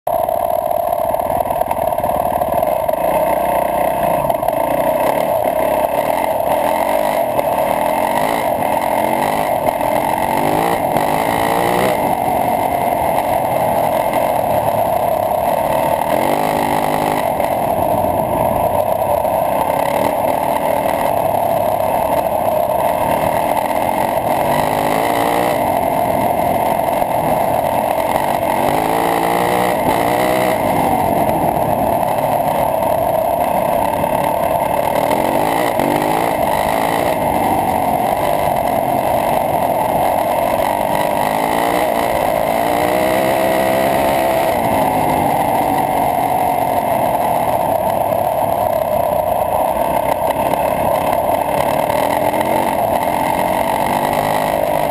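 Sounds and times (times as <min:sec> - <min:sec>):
dirt bike engine accelerating: 0:00.1 - 0:54.9.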